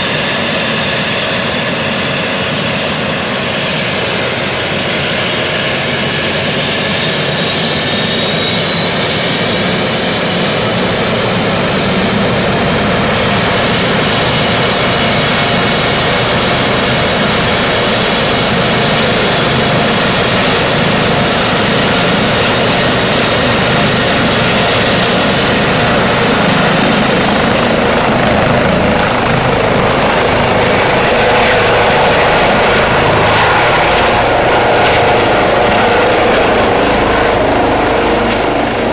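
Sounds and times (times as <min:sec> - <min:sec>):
helicopter turbine and rotor whine: 0:00.0 - 0:38.9.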